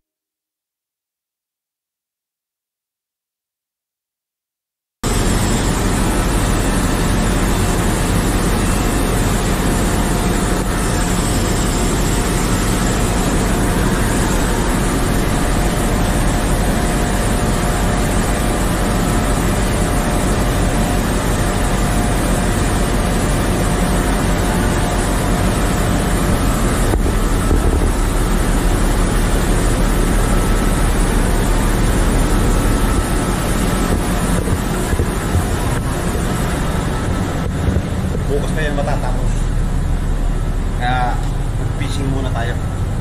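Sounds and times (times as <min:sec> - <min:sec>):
ship engine room machinery roar: 0:05.0 - 0:43.0.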